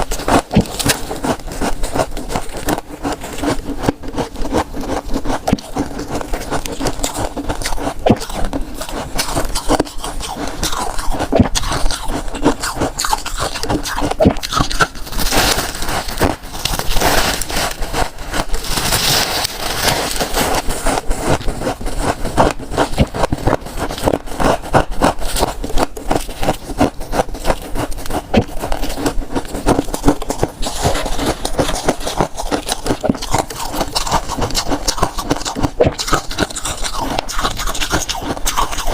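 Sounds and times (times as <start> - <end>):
frost being chewed: 0.0 - 38.9.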